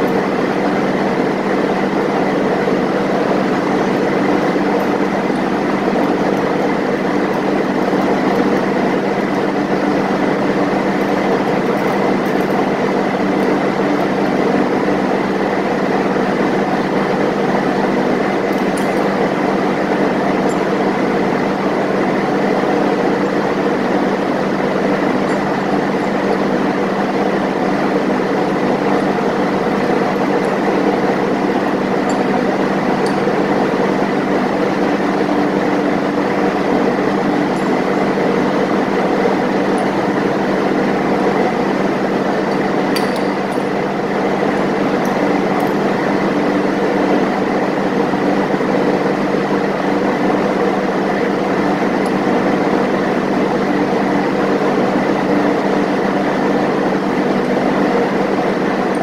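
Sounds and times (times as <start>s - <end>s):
engine room machinery drone: 0.0s - 59.0s.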